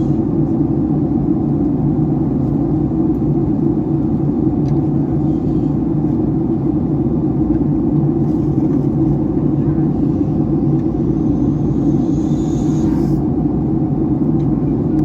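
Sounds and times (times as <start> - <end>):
airplane cabin engine drone: 0.0 - 15.0.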